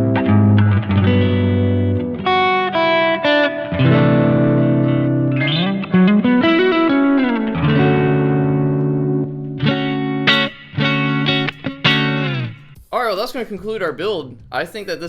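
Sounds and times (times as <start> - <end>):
clean electric guitar: 0.0 - 12.8.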